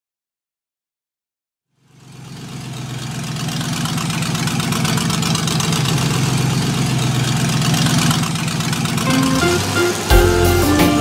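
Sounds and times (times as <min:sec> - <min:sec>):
car engine idling: 0:01.8 - 0:11.0.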